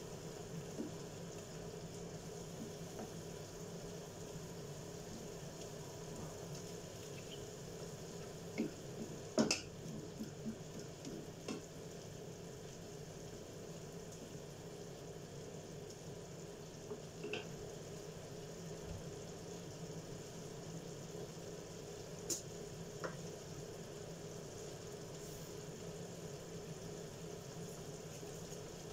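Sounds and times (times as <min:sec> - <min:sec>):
chicken sizzling in a frying pan: 0:00.0 - 0:28.9.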